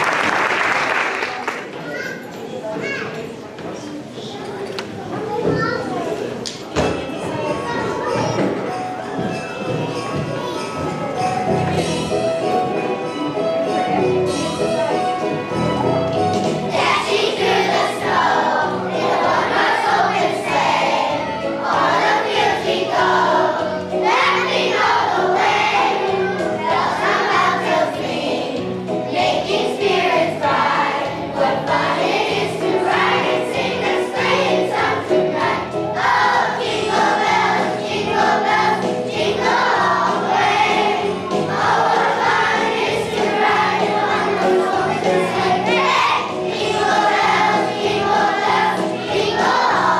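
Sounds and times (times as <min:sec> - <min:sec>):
children's choir singing: 0:06.8 - 0:49.9
musical accompaniment: 0:08.0 - 0:49.9.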